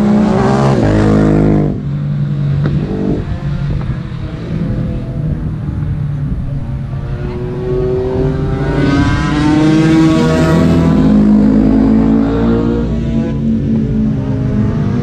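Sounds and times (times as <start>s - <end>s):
motorcycles accelerating past: 2.5s - 15.0s.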